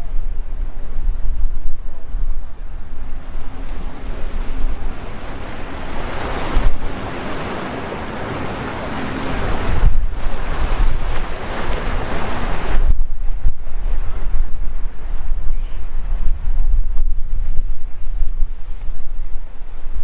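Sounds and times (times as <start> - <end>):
faint steady hum: 0.0 - 20.0
surf rushing and breaking: 0.0 - 20.0
wind buffeting microphone: 0.0 - 20.0.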